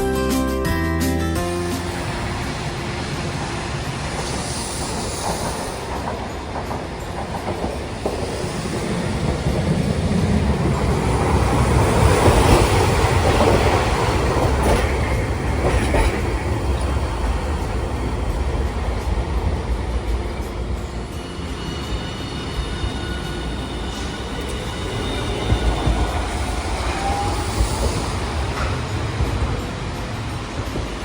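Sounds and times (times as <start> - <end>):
streetcar running on track: 0.0 - 31.0.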